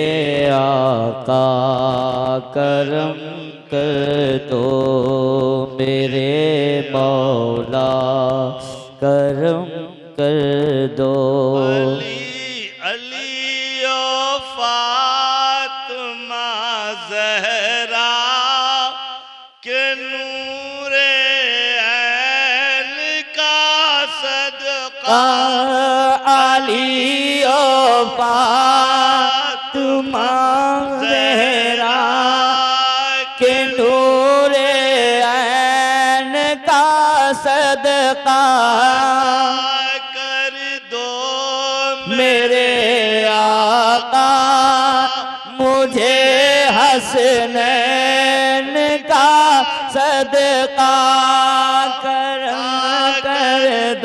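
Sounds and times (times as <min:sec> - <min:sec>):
man singing into a microphone: 0:00.0 - 0:54.0.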